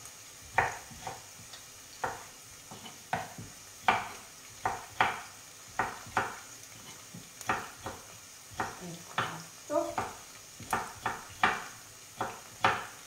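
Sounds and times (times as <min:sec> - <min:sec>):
knife chopping on wooden board: 0:00.5 - 0:01.3, 0:02.0 - 0:09.4, 0:10.0 - 0:13.0.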